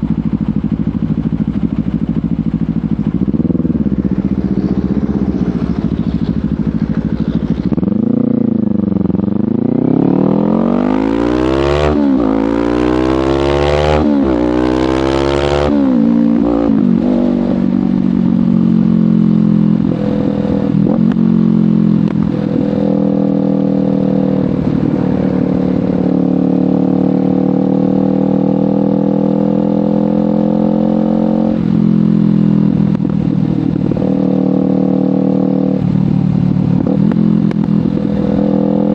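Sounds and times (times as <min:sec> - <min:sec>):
motorcycle engine cruising: 0:00.0 - 0:38.9
motorcycle engine revving: 0:00.0 - 0:38.9.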